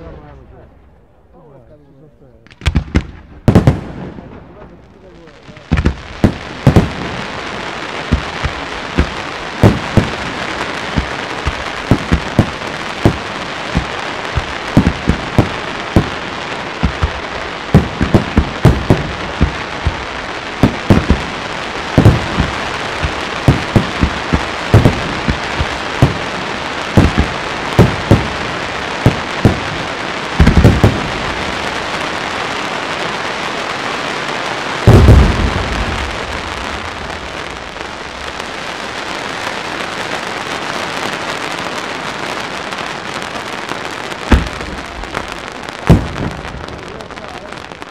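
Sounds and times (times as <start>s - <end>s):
firework crackling: 2.4s - 47.9s
loud firework bangs: 2.4s - 47.9s.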